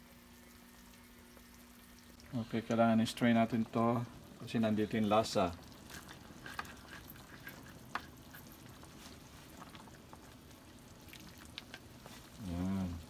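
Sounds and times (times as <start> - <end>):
juice dripping: 0.0 - 13.0.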